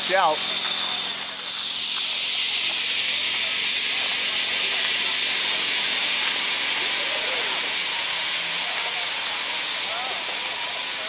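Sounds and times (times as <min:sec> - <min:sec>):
pulley rolling along steel cable: 0:00.0 - 0:11.0.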